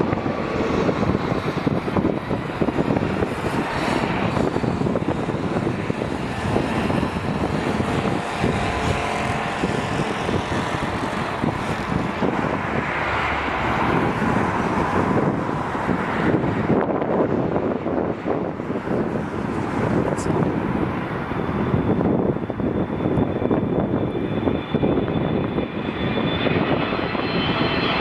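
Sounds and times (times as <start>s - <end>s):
faint engine whine: 0.0s - 28.0s
jet engines rushing: 0.0s - 28.0s.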